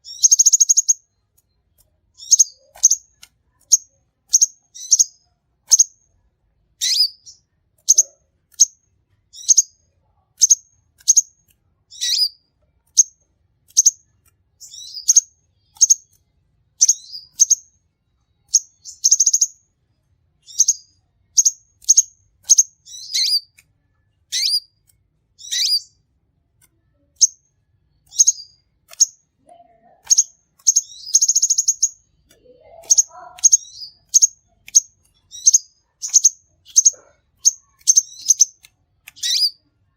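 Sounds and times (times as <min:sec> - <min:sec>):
bird chirping and trilling: 0:00.0 - 0:01.5, 0:02.1 - 0:06.0, 0:06.8 - 0:09.8, 0:10.4 - 0:16.2, 0:16.8 - 0:17.8, 0:18.4 - 0:19.6, 0:20.4 - 0:23.6, 0:24.2 - 0:24.8, 0:25.4 - 0:26.0, 0:26.8 - 0:39.7.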